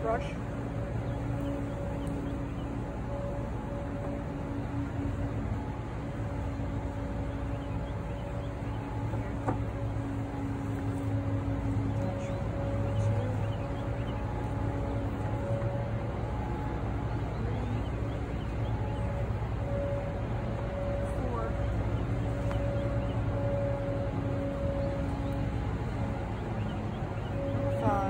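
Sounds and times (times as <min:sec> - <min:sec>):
honeybees buzzing: 0:00.0 - 0:28.0
steady low rumble: 0:00.0 - 0:28.0.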